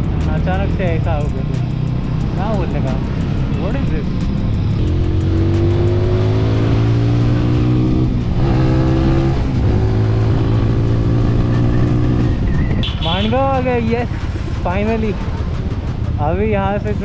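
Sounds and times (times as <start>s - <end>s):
motorcycle engine accelerating: 0.0s - 16.2s.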